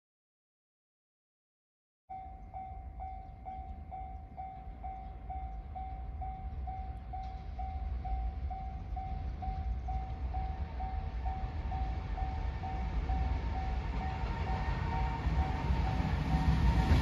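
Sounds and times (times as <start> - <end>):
level-crossing warning bell ringing: 2.1 - 17.0.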